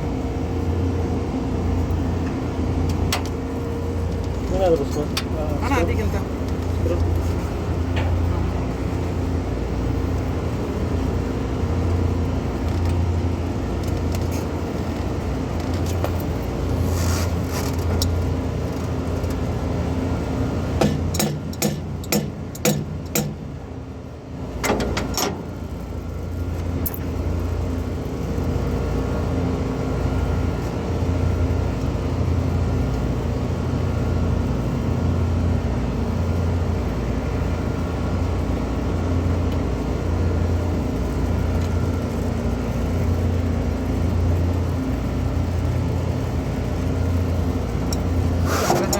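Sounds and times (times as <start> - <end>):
low machinery hum: 0.0 - 48.9.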